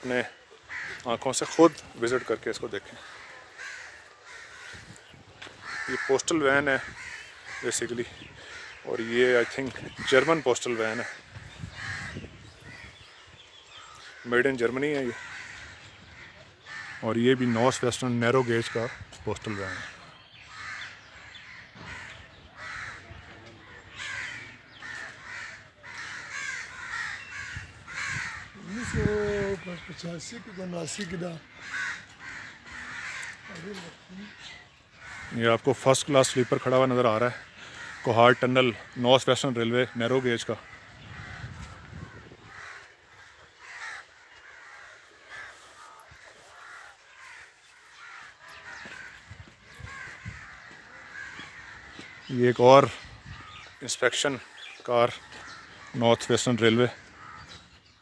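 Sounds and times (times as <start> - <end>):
crows cawing: 0.0 - 58.0.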